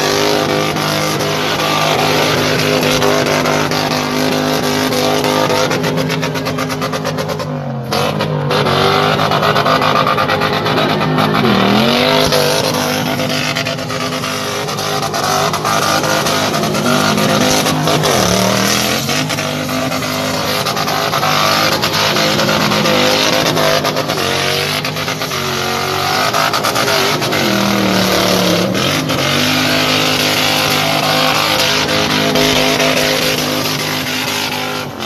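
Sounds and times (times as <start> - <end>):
engine revving hard: 0.0 - 35.0
tyres spinning and squealing: 0.0 - 35.0.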